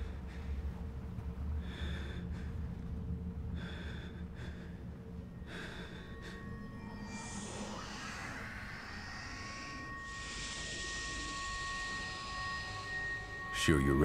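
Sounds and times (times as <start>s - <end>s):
man breathing heavily: 0.0s - 13.5s
low rumbling drone: 0.0s - 14.0s.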